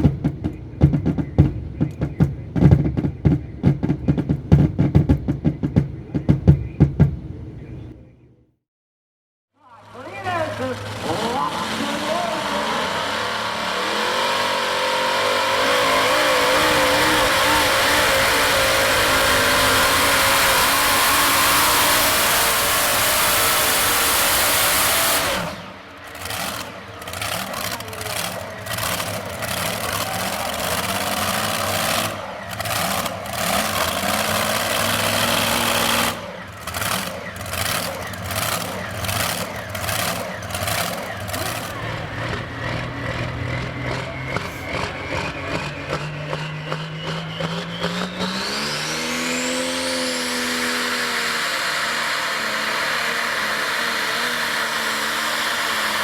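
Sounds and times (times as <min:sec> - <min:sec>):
vehicle engine running hard: 0:00.0 - 0:08.2, 0:09.8 - 0:56.0.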